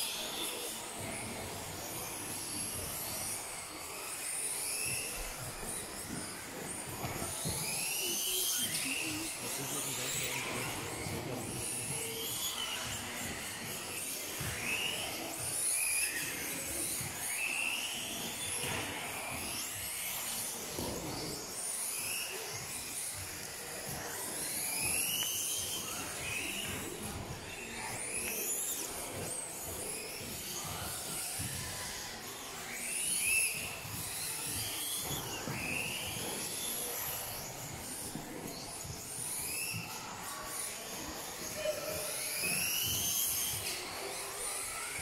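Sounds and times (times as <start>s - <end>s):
model buggy motors whining: 0.0s - 45.0s.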